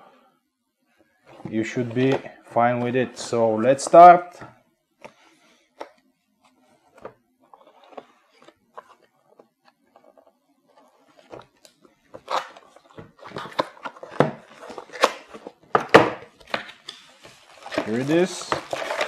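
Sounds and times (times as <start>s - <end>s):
cardboard rustling: 1.3s - 4.0s, 5.0s - 19.0s.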